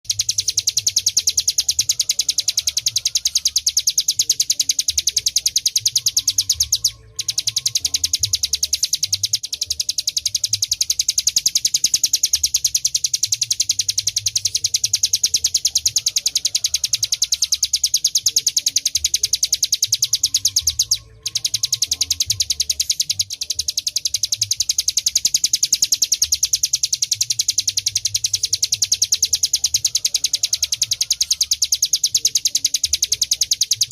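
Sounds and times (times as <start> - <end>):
bird singing fast trill: 0.0 - 33.9.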